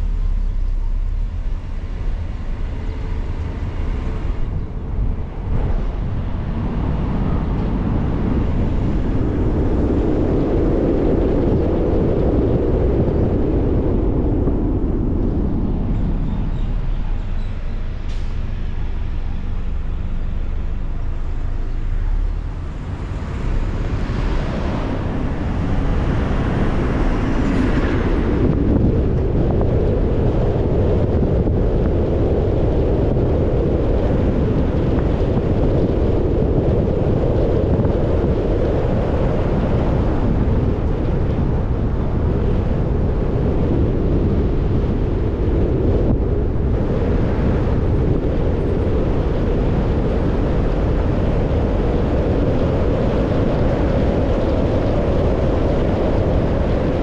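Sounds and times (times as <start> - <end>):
car tyre and engine noise: 0.0 - 57.0.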